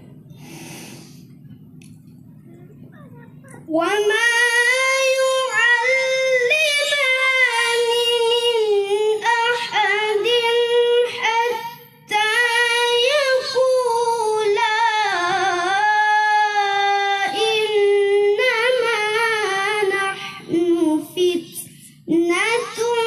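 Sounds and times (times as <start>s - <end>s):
child reciting melodically: 2.4s - 23.0s.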